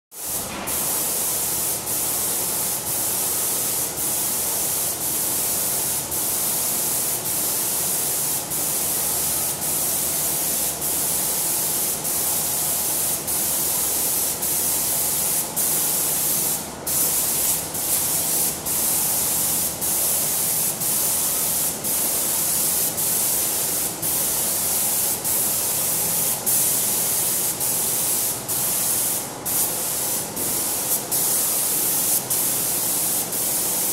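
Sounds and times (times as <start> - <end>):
paint sprayer hissing: 0.2 - 33.9.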